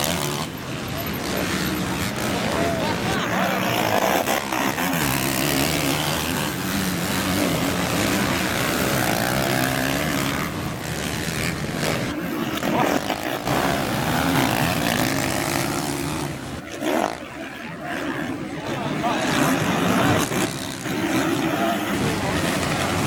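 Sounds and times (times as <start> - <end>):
motocross motorcycle engines revving: 0.0 - 23.0.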